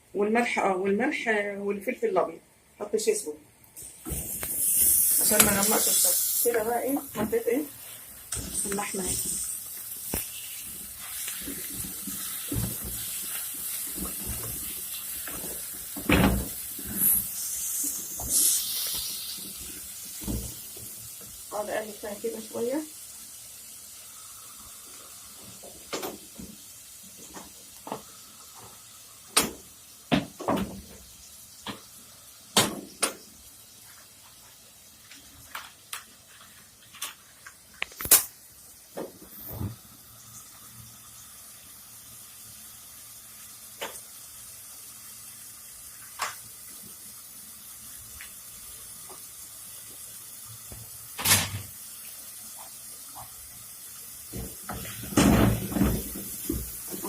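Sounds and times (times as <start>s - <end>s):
meat sizzling in a pot: 3.8s - 57.0s.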